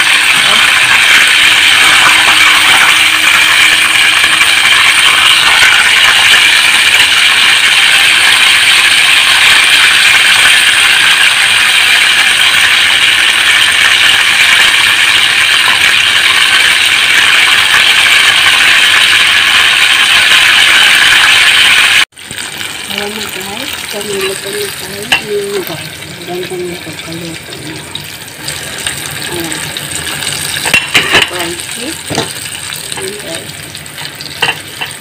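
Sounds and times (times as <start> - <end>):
chicken deep-frying in oil: 0.0 - 35.0.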